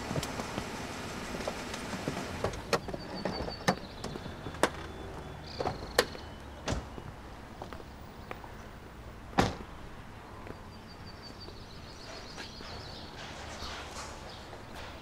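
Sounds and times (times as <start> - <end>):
low street hum: 0.0 - 15.0.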